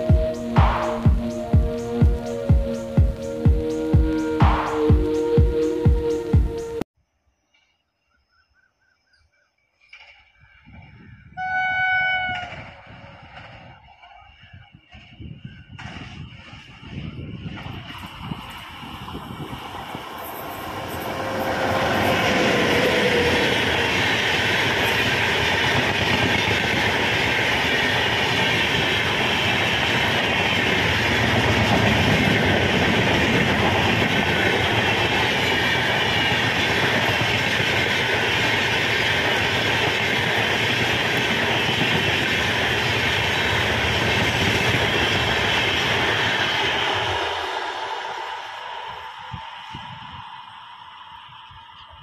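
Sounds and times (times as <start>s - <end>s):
electric locomotive passing: 0.0s - 6.8s, 9.8s - 52.0s
train wheels rushing on rails: 0.0s - 6.8s, 12.1s - 52.0s.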